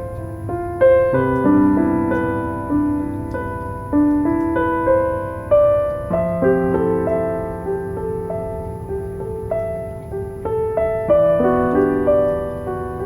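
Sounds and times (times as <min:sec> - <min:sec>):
gentle solo piano music: 0:00.0 - 0:13.0
low steady hiss with crackles: 0:00.0 - 0:13.0.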